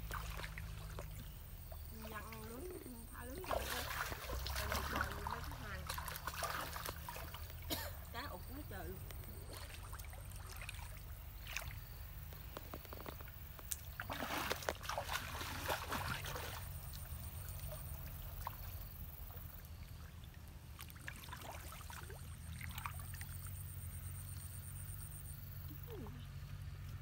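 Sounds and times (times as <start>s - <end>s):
water splashing and dripping: 0.0s - 23.8s
steady low hum: 0.0s - 27.0s.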